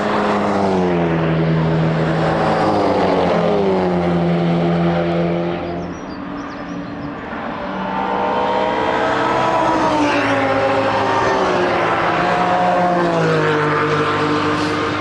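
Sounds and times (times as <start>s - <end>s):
race cars passing: 0.0s - 15.0s.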